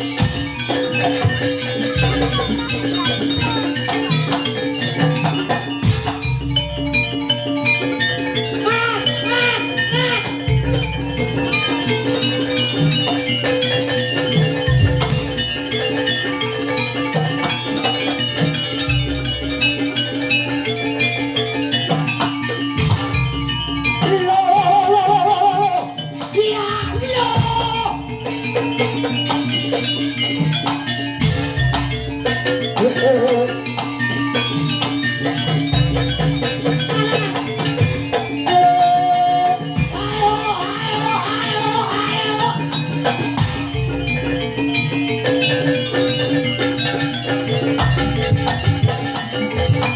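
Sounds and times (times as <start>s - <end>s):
drum beats: 0.0s - 49.9s
metallophones ringing: 0.0s - 49.9s.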